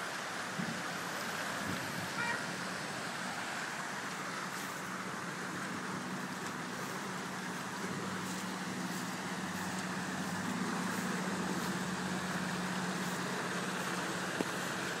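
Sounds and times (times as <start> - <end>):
bus engine humming: 0.0 - 15.0.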